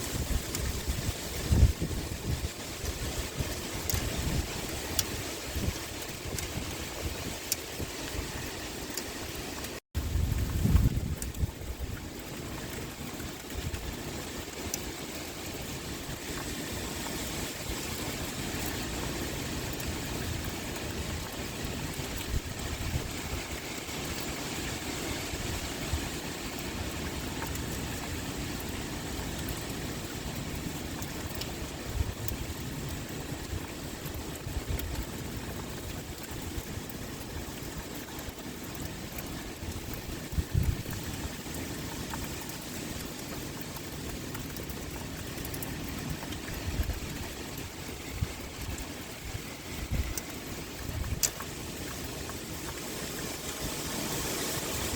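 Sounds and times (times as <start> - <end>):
heavy rain pouring: 0.0 - 54.9
wind: 0.0 - 54.9.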